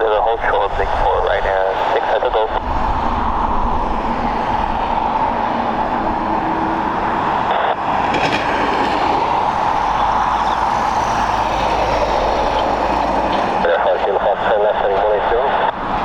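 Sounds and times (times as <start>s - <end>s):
jet aircraft engine noise: 0.0s - 16.0s.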